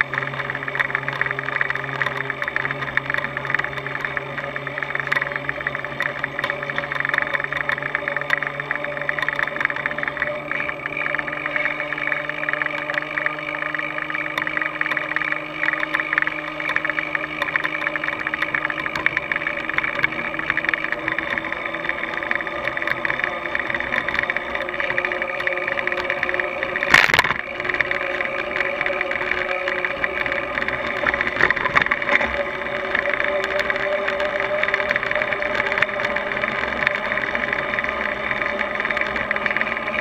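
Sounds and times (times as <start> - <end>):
low steady hum: 0.0 - 40.0
passing traffic: 0.0 - 40.0
tyre and road noise: 0.0 - 40.0.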